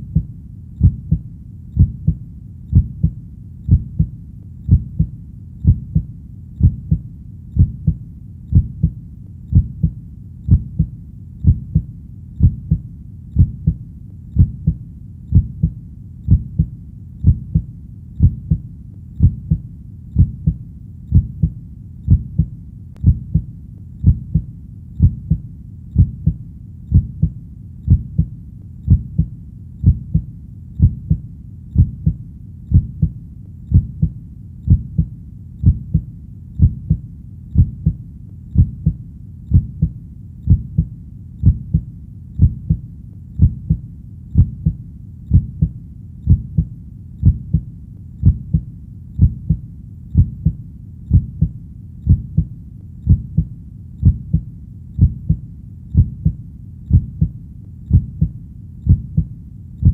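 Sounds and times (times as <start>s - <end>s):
heartbeat thumping: 0.0s - 13.8s, 14.4s - 49.6s, 50.2s - 59.9s
faint low rumble: 0.0s - 59.9s.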